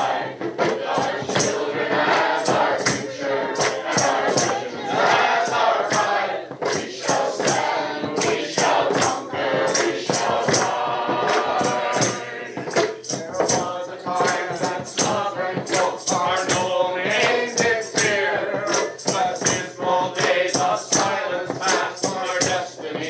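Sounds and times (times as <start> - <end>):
choir singing: 0.0 - 23.0
sharp percussive strikes: 0.0 - 23.0.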